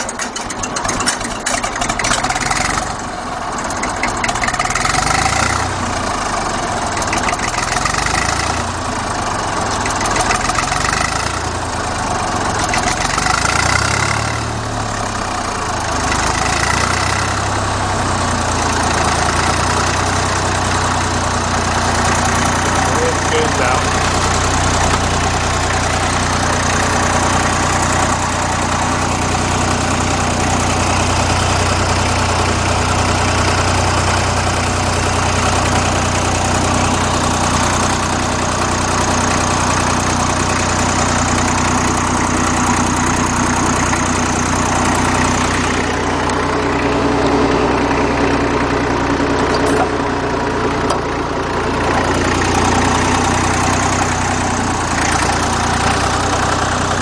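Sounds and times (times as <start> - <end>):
tractor diesel engine idling: 0.0 - 57.0
water pump bearing roaring: 0.0 - 57.0.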